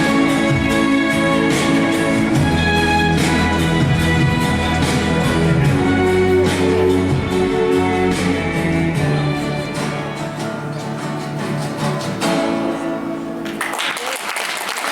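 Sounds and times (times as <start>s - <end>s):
plucked acoustic guitar: 0.0s - 13.6s.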